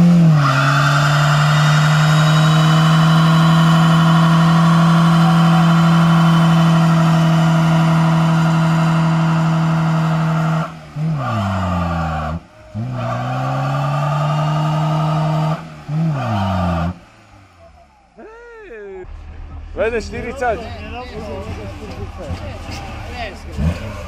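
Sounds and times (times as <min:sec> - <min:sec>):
car engine revving high: 0:00.0 - 0:17.6, 0:21.0 - 0:24.0.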